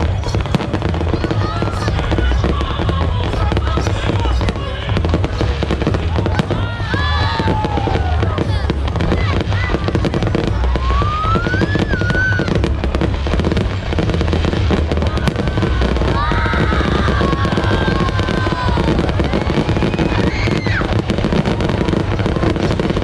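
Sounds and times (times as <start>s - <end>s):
fireworks crackling: 0.0s - 23.0s
whistling fireworks: 0.0s - 23.0s.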